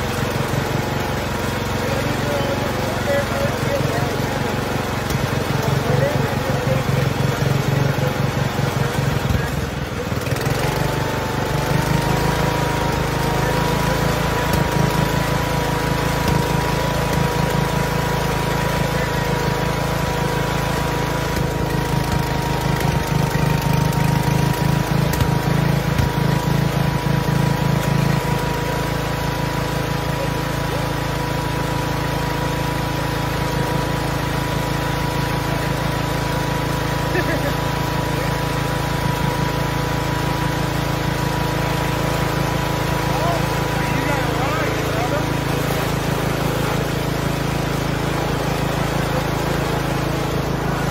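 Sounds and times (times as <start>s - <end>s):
small gasoline engine running: 0.0s - 50.9s.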